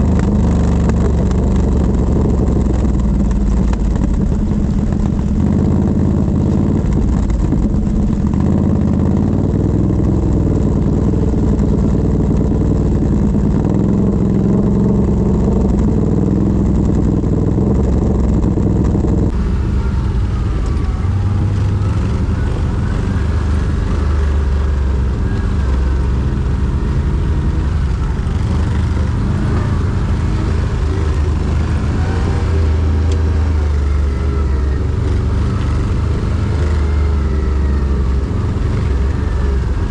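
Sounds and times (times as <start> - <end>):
quad bike engines running: 0.0 - 39.9.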